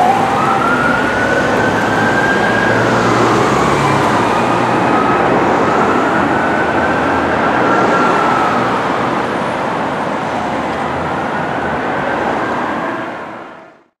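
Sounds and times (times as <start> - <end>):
fire siren wailing: 0.0 - 13.9
road and vehicle noise: 0.0 - 14.0.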